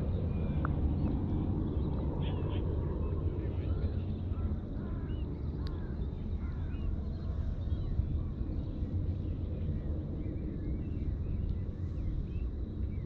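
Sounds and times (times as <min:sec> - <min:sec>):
birds chirping: 0:00.0 - 0:13.0
low steady rumble: 0:00.0 - 0:13.0.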